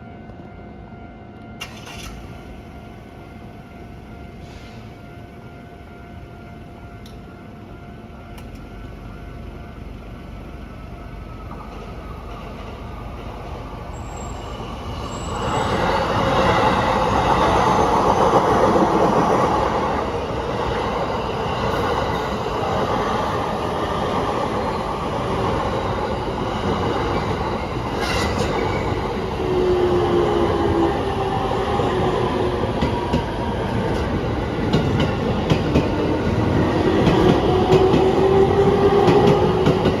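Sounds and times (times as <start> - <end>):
train passing on rails: 0.0 - 40.0.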